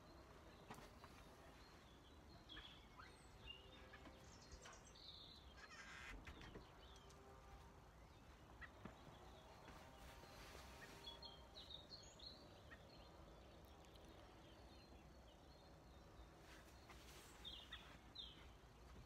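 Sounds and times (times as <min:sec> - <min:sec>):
distant birds chirping: 0:00.0 - 0:19.0.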